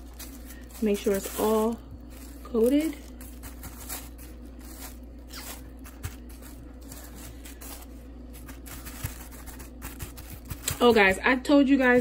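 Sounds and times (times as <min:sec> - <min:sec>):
gritty scraping of breading: 0:00.0 - 0:11.2
plastic bag crinkling: 0:00.0 - 0:12.0.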